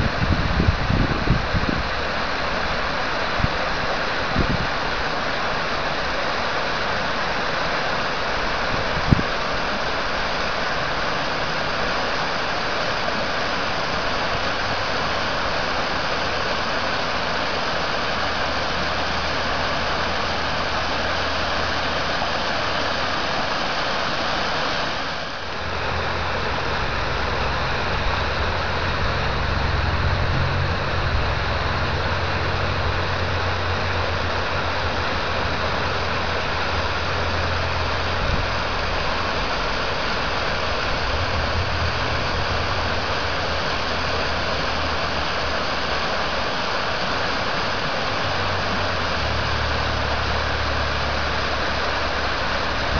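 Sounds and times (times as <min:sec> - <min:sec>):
low steady rumble: 0:00.0 - 0:24.2, 0:25.0 - 0:52.9
river water rushing over rubble: 0:00.0 - 0:52.9.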